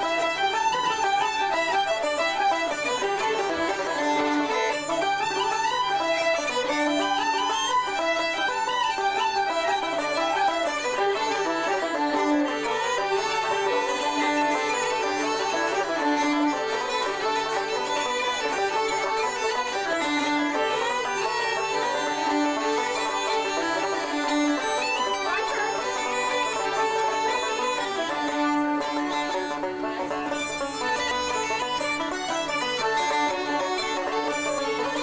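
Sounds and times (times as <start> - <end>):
bagpipe chanter melody: 0.0 - 35.0
bagpipe drone: 0.0 - 35.0.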